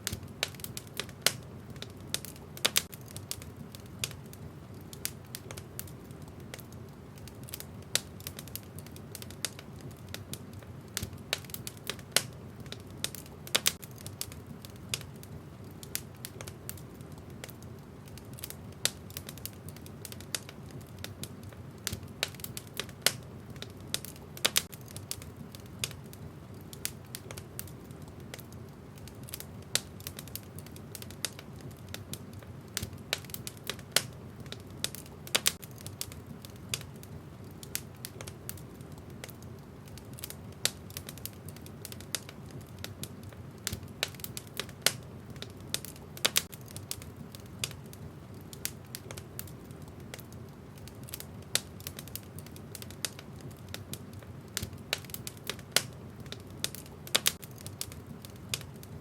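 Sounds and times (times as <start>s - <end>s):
low rush of flames: 0.0s - 59.0s
wood fire crackling and popping: 0.0s - 59.0s.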